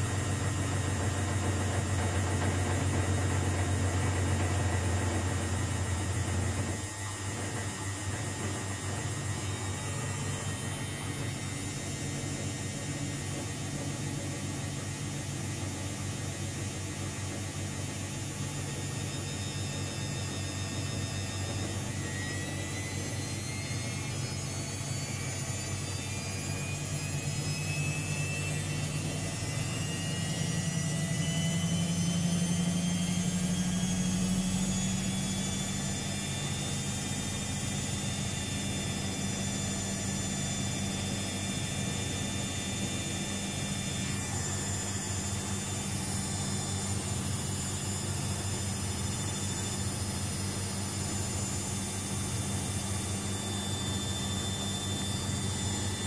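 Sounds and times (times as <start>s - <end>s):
rising motor whine: 0.0s - 56.0s
washing machine spinning: 0.0s - 56.0s.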